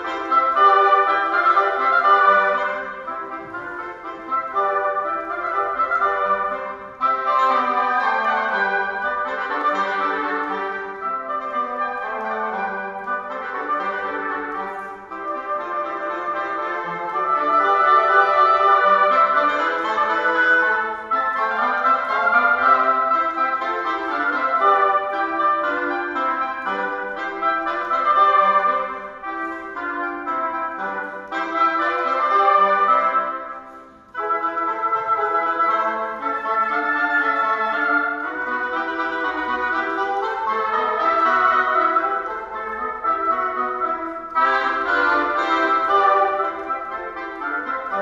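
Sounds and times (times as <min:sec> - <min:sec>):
oboes and english horn playing: 0:00.0 - 0:48.0.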